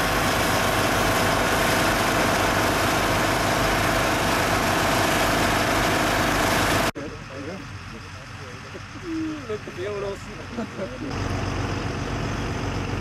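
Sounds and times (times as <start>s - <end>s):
fire engine motor running: 0.0s - 13.0s.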